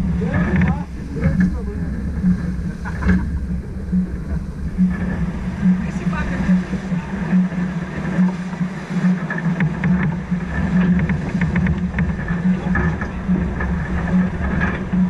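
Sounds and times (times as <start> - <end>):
water rushing past boat: 0.0 - 15.0
wind rushing: 0.0 - 15.0.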